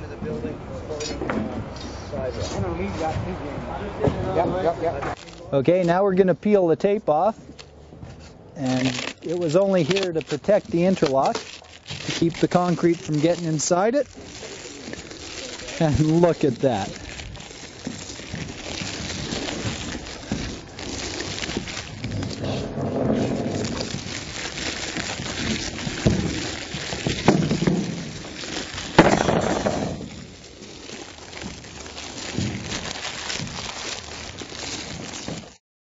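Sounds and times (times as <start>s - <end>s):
tape ripping off foam: 4.2s - 35.6s.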